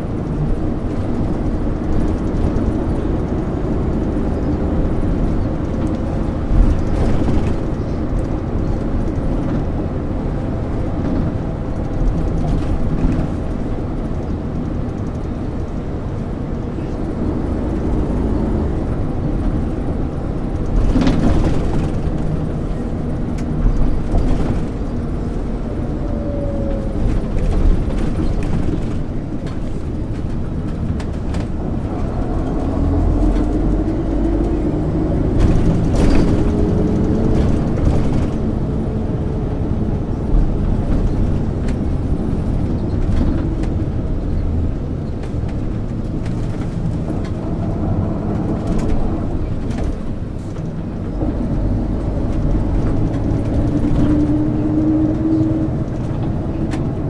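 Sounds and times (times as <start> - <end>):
bus engine running: 0.0 - 57.0
road noise: 0.0 - 57.0.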